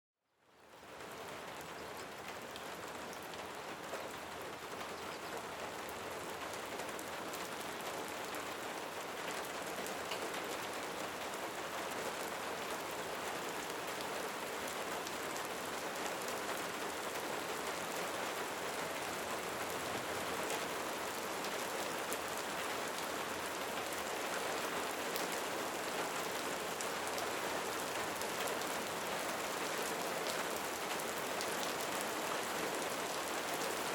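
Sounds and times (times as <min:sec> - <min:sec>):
steady rain patter: 0:00.4 - 0:33.9.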